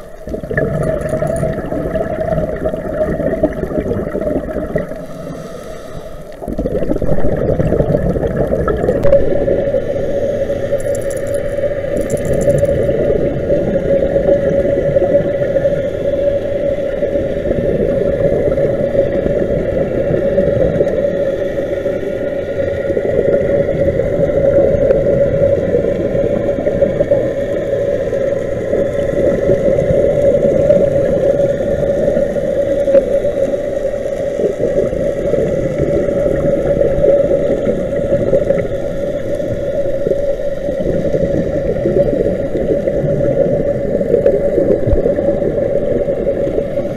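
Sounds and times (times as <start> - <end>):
constant hum: 0.0 - 46.9
muffled underwater rumble: 0.0 - 46.9.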